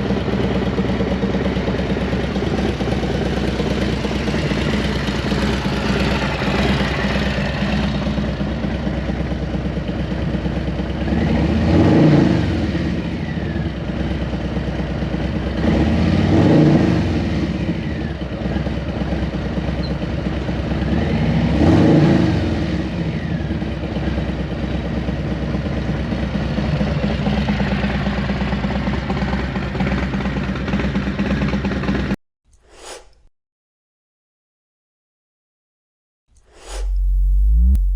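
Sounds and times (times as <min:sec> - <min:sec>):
motorcycle engine idling and revving: 0:00.0 - 0:32.2, 0:36.4 - 0:37.9.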